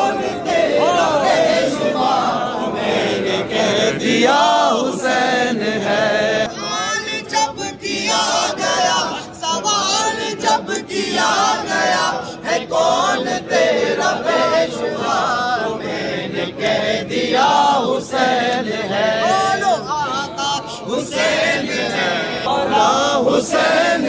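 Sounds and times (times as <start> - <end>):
men singing together: 0.0 - 24.0.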